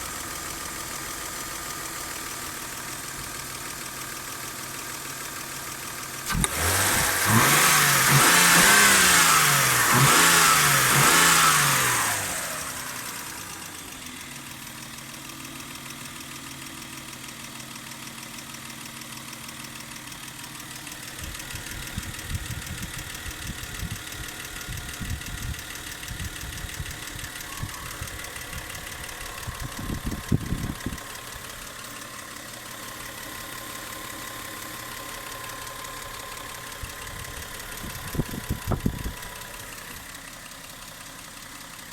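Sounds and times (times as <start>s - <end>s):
engine knocking: 0.0s - 8.9s, 12.2s - 41.9s
car engine revving and idling: 0.0s - 41.9s.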